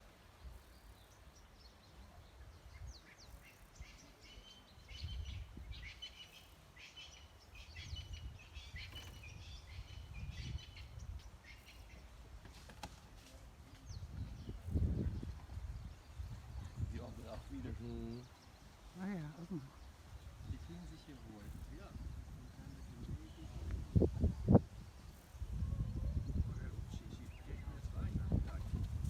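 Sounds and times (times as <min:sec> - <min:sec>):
birds chirping and trilling: 0:00.2 - 0:12.9, 0:13.7 - 0:29.0.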